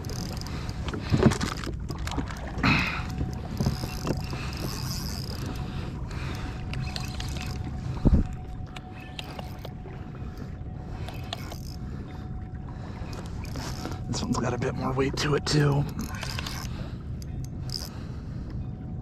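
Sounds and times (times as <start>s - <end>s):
water and wind rumbling: 0.0s - 19.0s.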